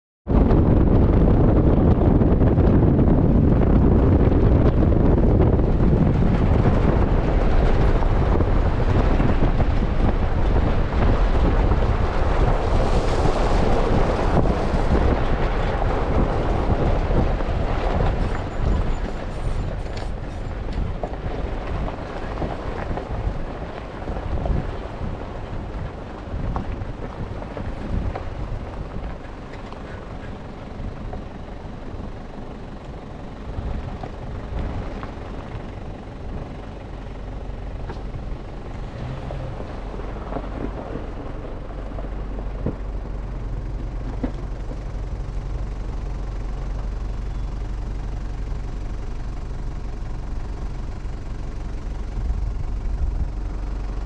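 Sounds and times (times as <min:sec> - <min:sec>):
tyres on gravel road: 0:00.3 - 0:54.0
wind buffeting microphone: 0:00.3 - 0:54.0.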